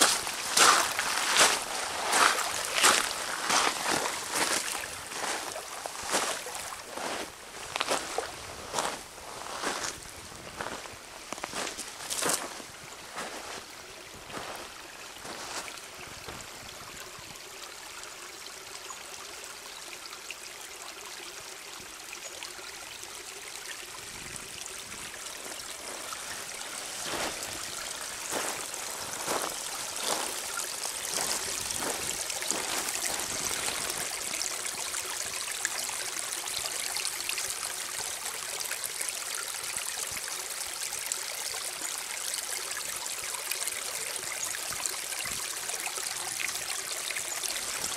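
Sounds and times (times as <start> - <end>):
creek trickling over gravel: 0.0 - 47.9.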